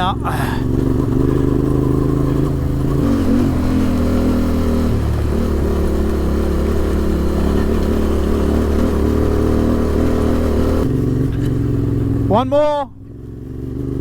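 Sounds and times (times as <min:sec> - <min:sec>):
motorcycle engine running at low revs: 0:00.0 - 0:14.0.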